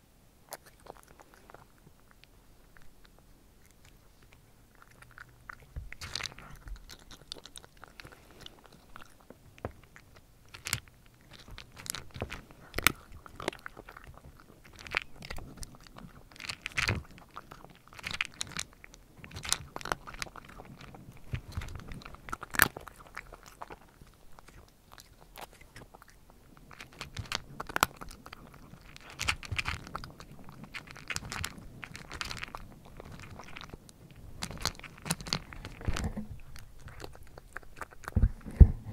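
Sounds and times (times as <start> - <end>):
cat crunching dry kibble: 0.4 - 38.9.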